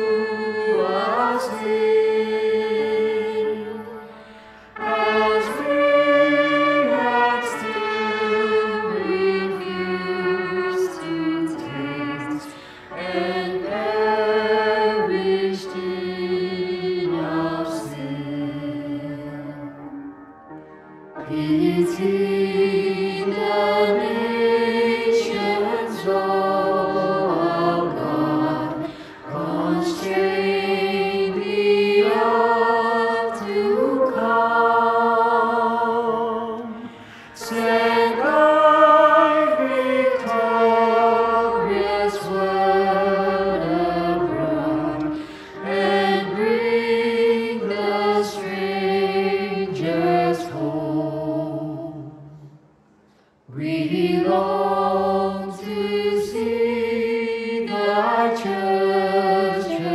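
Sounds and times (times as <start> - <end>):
group singing hymn unaccompanied: 0.0 - 20.0, 21.2 - 52.6, 53.5 - 59.9.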